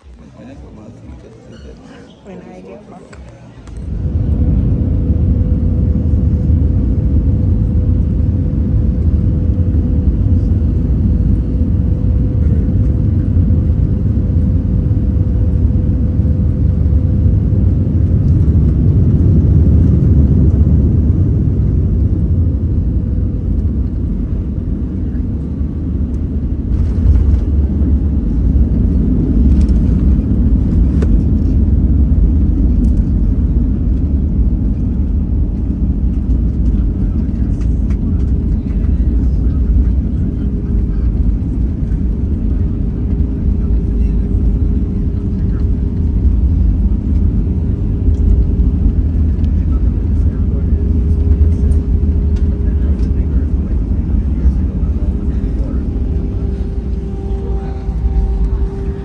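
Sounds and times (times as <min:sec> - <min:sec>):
airliner cabin rumble: 0:00.0 - 0:59.0
faint steady whine: 0:00.0 - 0:59.0.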